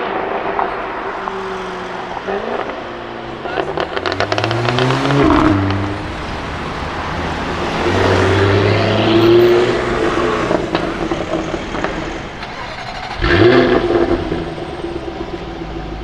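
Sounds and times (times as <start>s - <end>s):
car driving by: 0.0s - 16.0s
car engine revving: 0.0s - 16.0s
exhaust crackles: 0.0s - 16.0s.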